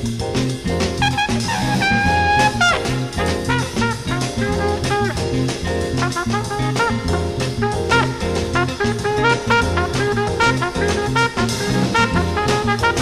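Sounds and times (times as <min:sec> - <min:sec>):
swing jazz with brass and drums: 0:00.0 - 0:13.0
bending horn phrases: 0:01.0 - 0:13.0.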